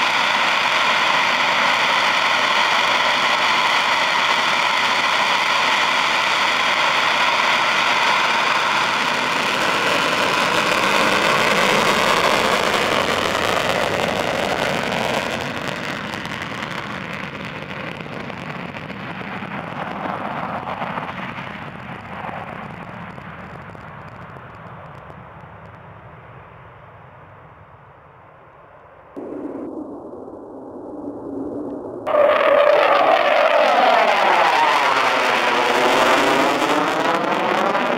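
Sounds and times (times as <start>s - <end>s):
jet engine roar: 0.0s - 28.0s, 28.8s - 37.9s.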